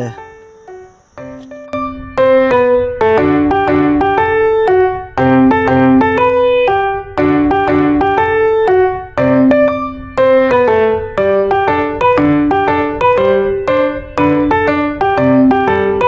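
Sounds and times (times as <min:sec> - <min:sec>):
electric piano melody: 0:00.0 - 0:16.0.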